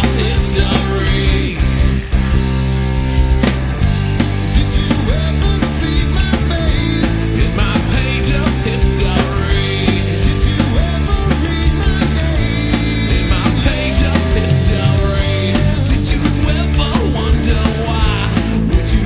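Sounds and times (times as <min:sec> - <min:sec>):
person singing: 0:00.0 - 0:01.7, 0:04.5 - 0:19.0
distorted guitar: 0:00.0 - 0:19.0
drums: 0:00.0 - 0:19.0
loud rock song: 0:00.0 - 0:19.0.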